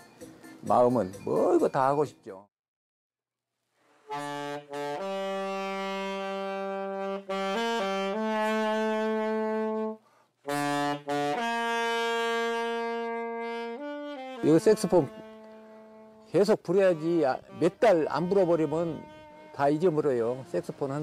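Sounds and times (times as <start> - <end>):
solo saxophone melody: 4.0 - 21.0.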